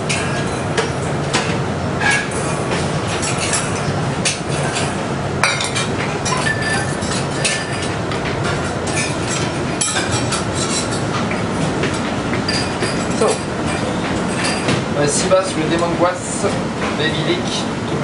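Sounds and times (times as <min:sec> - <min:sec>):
utensils clinking on plates and pans: 0:00.0 - 0:16.2
kitchen background roar: 0:00.0 - 0:18.0.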